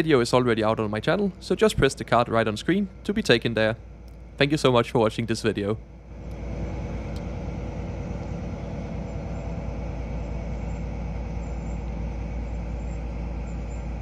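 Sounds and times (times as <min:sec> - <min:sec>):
diesel train rumbling past: 0:00.0 - 0:14.0.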